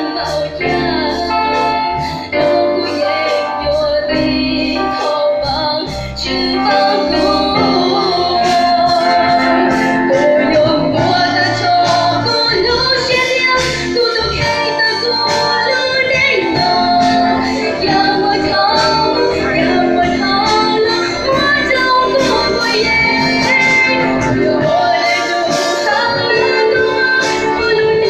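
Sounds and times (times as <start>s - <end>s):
woman singing into a microphone: 0.0s - 28.0s
worship song backing track: 0.0s - 28.0s.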